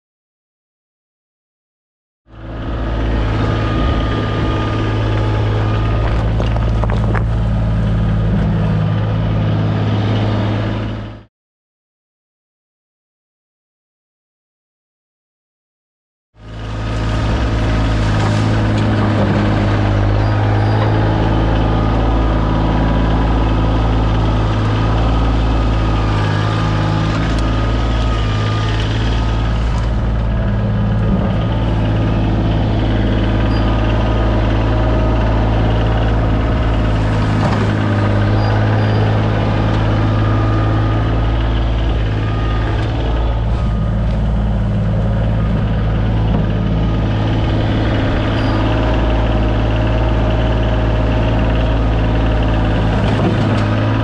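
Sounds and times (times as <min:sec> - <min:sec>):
tractor diesel engine running: 0:02.3 - 0:11.3, 0:16.4 - 0:54.0.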